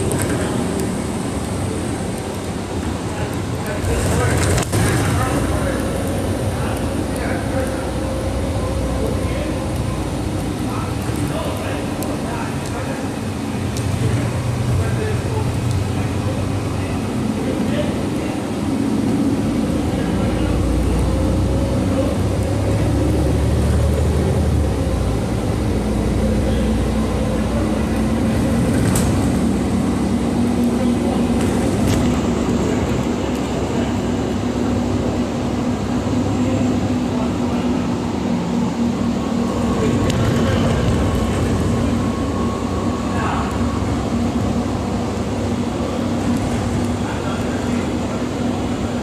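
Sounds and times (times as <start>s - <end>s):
bus engine and road noise: 0.0s - 49.0s.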